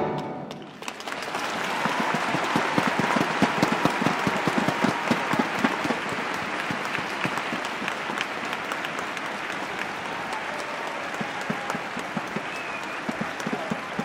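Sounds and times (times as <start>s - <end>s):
arena crowd applauding: 0.1s - 14.0s.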